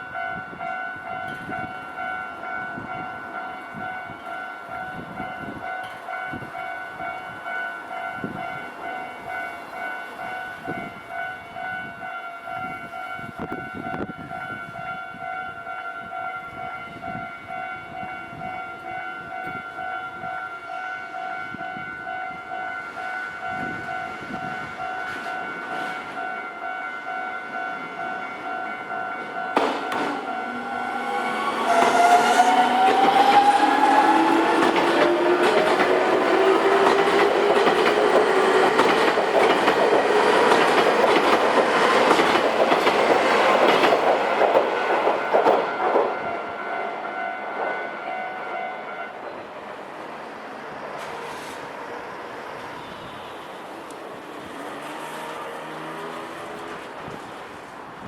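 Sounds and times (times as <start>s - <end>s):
level crossing warning bell: 0.0s - 50.5s
train rumbling: 0.0s - 58.0s.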